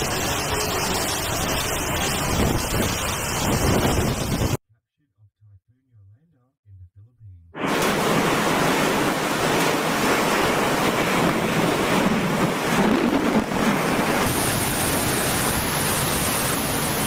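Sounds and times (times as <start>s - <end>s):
driving rain: 0.0s - 4.6s, 7.6s - 17.0s
strong storm wind: 0.0s - 4.6s, 7.6s - 17.0s
wind buffeting microphone: 0.0s - 4.6s, 7.6s - 17.0s.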